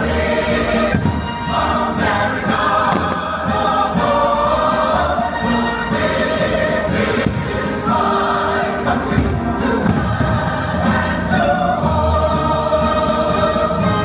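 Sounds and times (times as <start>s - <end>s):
choir singing with accompaniment: 0.0s - 14.0s.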